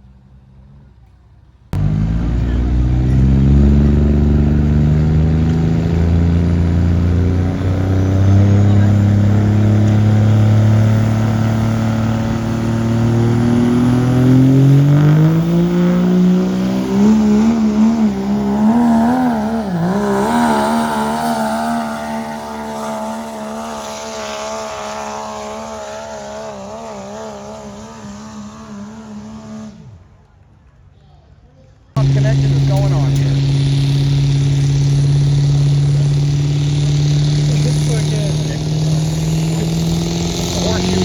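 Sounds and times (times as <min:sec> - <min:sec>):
diesel truck engine revving: 0:01.7 - 0:30.2, 0:32.0 - 0:41.0.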